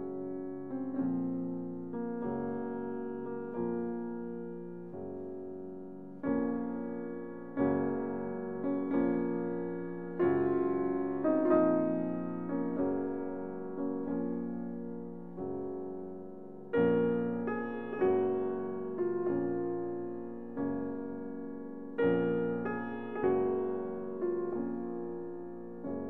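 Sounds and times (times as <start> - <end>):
gentle piano chords: 0.0 - 26.0.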